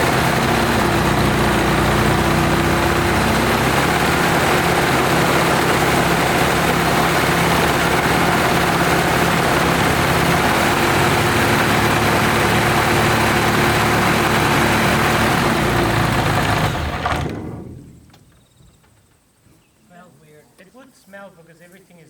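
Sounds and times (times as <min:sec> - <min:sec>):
engine running: 0:00.0 - 0:18.1.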